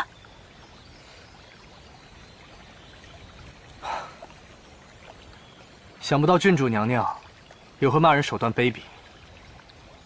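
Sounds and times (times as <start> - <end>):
stream water running: 0.0 - 10.0.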